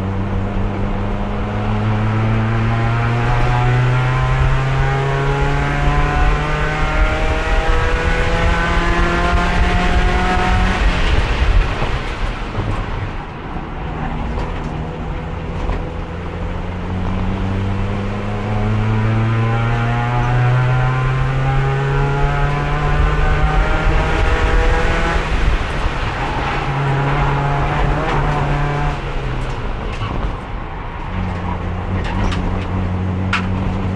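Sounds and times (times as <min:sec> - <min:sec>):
race car engine: 0:00.0 - 0:33.9
wind and road noise: 0:00.0 - 0:33.9.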